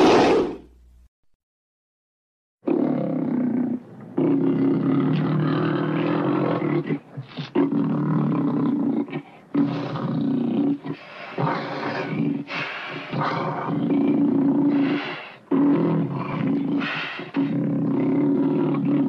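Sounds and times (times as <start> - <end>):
cartoon tiger roaring: 0.0 - 0.7, 2.7 - 19.0.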